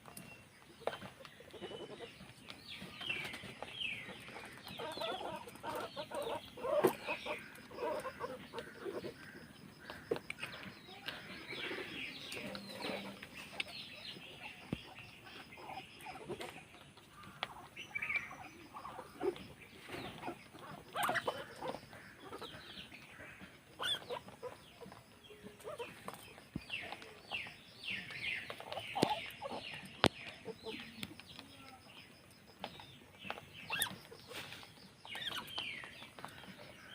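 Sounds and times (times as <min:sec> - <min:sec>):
guinea pigs squeaking: 0:00.8 - 0:10.2, 0:11.1 - 0:31.4, 0:32.5 - 0:36.9.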